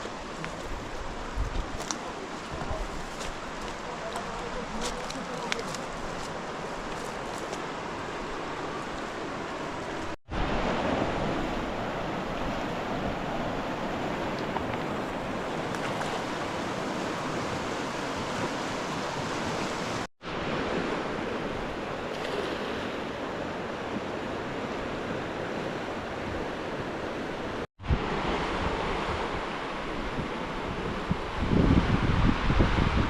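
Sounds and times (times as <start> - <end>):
fast-flowing river water: 0.0 - 30.8.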